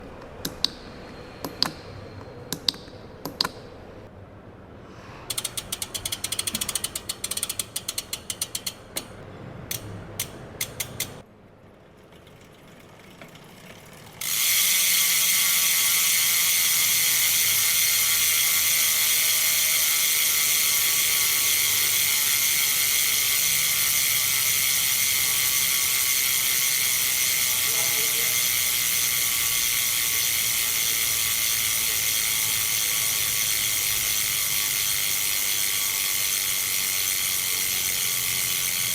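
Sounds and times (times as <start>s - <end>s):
bicycle freehub ratcheting: 5.3s - 38.9s.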